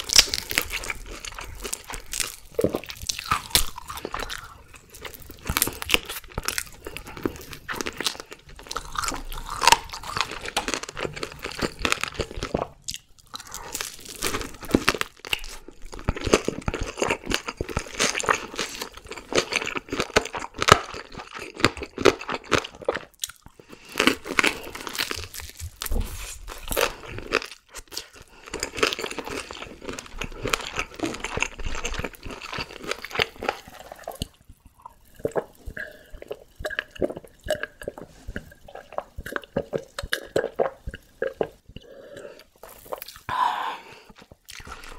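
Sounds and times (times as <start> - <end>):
crunching and chewing fried chicken: 0.0 - 44.9.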